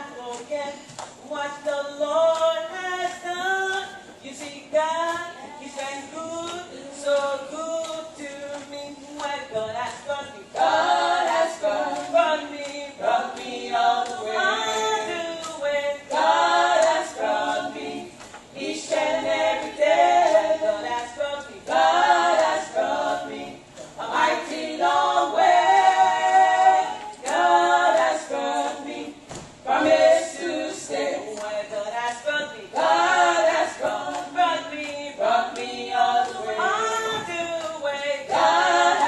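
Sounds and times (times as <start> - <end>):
women singing in harmony: 0.0 - 39.0.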